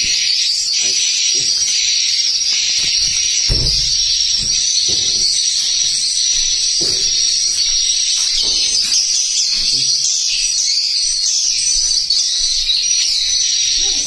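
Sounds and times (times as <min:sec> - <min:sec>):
recorded bird chirping: 0:00.0 - 0:14.0.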